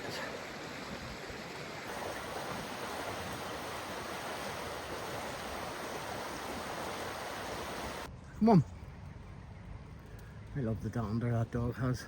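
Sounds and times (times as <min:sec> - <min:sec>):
steady rushing noise outdoors: 0:00.0 - 0:12.0.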